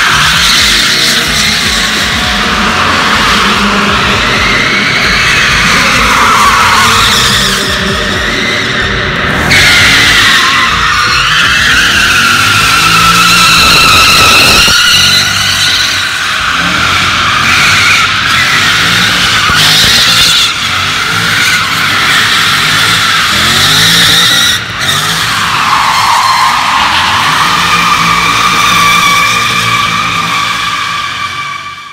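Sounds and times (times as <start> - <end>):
tyres squealing: 0.0 - 31.8
car engine revving: 0.0 - 31.9.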